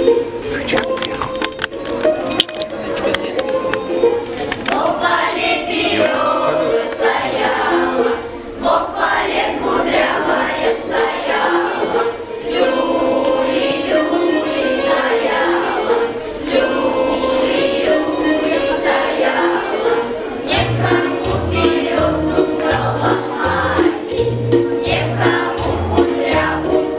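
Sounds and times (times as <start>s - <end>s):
children's choir singing: 0.0s - 2.4s, 3.3s - 26.9s
musical accompaniment: 0.0s - 26.9s.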